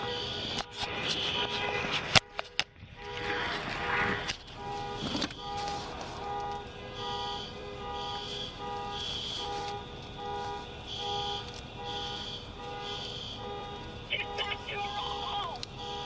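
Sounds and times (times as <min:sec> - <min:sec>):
car alarms beeping: 0:00.0 - 0:16.0.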